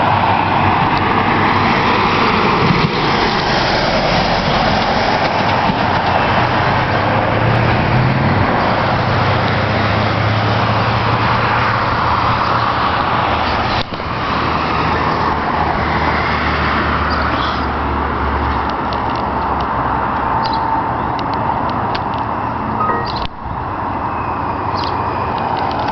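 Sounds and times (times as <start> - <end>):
cars driving past: 0.0 - 25.9.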